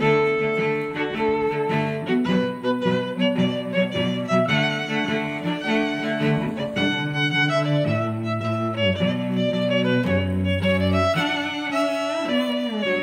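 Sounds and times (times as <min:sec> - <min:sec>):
slow held chords: 0:00.0 - 0:13.0.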